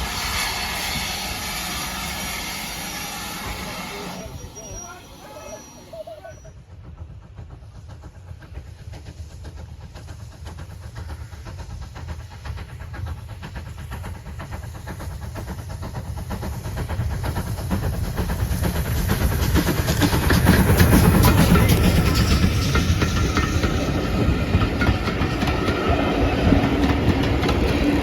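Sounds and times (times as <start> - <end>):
train rumble: 0.0 - 28.0
train wheels rattling on rails: 0.0 - 28.0.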